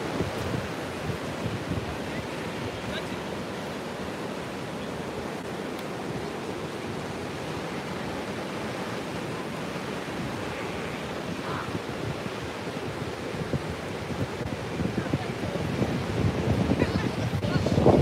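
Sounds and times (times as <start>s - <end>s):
ocean surf breaking on beach: 0.0s - 18.0s
wind buffeting microphone: 0.0s - 18.0s.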